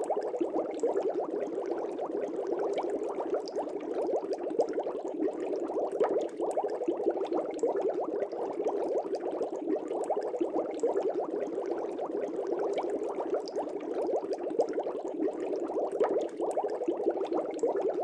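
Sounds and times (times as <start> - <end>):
air bubbles in fish tank: 0.0 - 18.0.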